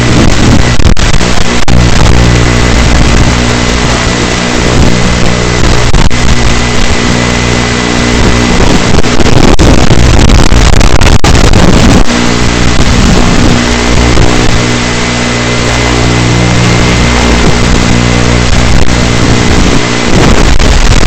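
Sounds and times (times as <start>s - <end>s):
drone propellers buzzing: 0.0s - 21.0s.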